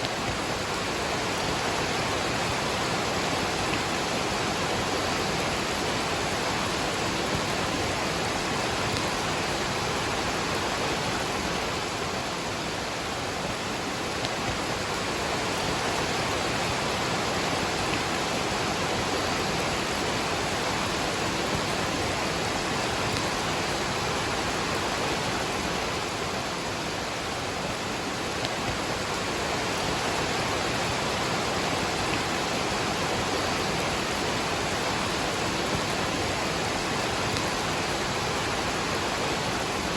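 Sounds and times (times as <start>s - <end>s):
falling rain: 0.0s - 39.9s
waterfall rushing: 0.0s - 39.9s.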